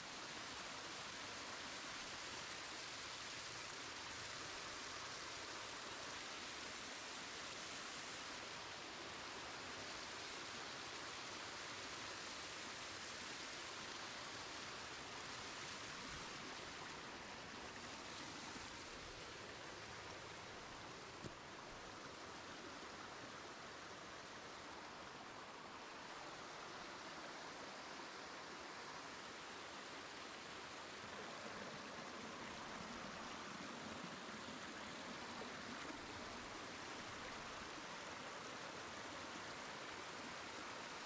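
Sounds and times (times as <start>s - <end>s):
stream rushing over rock: 0.0s - 41.0s.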